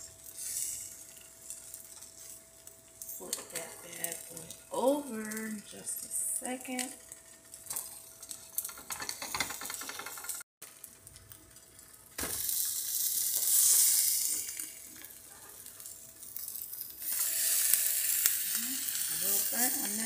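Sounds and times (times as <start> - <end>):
omelet sizzling: 0.0 - 20.0.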